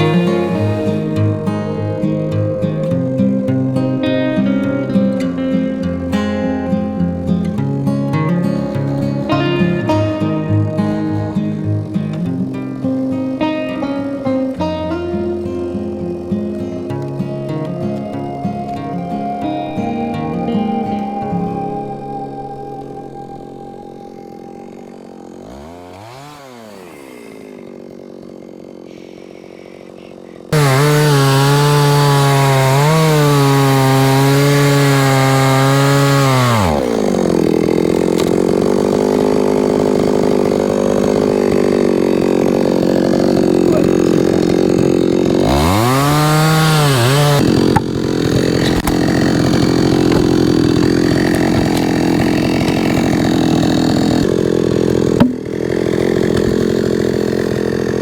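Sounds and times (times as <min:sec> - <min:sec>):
chainsaw cutting logs: 0:00.0 - 0:58.0.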